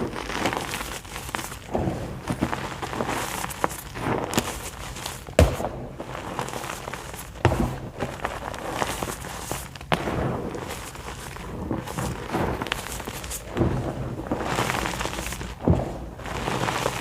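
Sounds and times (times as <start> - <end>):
chalk being crushed: 0.0 - 17.0.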